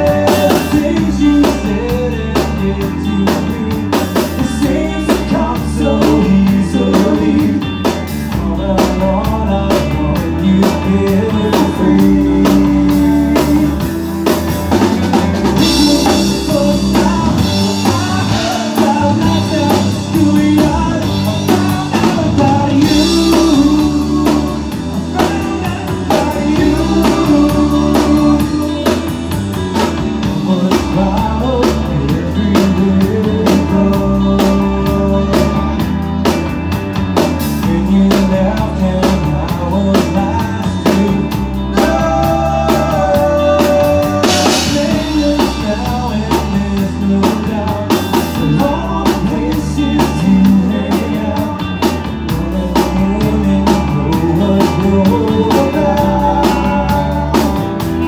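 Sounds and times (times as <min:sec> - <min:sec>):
person singing: 0:00.0 - 0:14.2, 0:15.5 - 0:36.0, 0:37.5 - 0:58.0
bass guitar: 0:00.0 - 0:58.0
drum kit: 0:00.0 - 0:58.0
electric guitar: 0:00.0 - 0:58.0.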